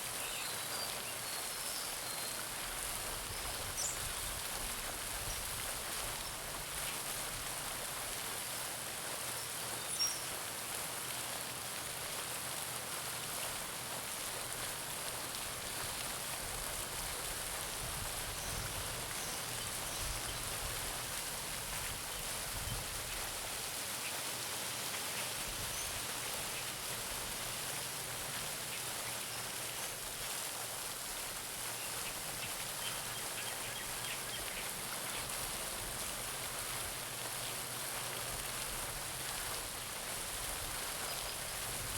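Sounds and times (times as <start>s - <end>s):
fountain splashing into water: 0.0s - 41.9s.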